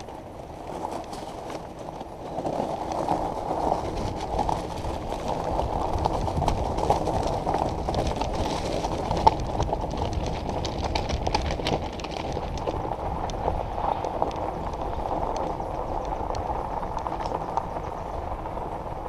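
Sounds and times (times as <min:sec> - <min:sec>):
stones clicking and knocking: 0:00.0 - 0:17.7
bike rattles: 0:00.0 - 0:19.0
bike tires rolling on gravel: 0:00.0 - 0:19.0.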